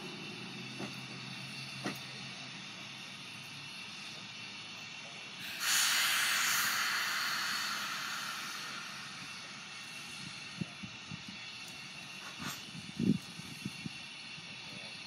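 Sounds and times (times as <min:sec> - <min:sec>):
steam locomotive steam burst: 0:00.0 - 0:15.0.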